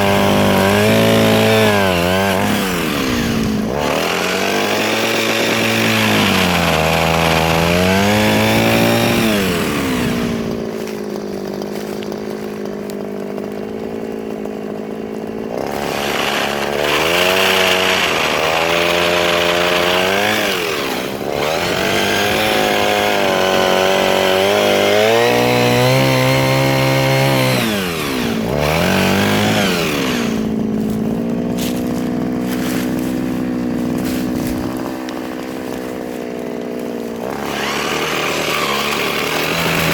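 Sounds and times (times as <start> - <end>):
chain rasping through wood: 0.0 - 39.9
mini chainsaw motor: 0.0 - 39.9.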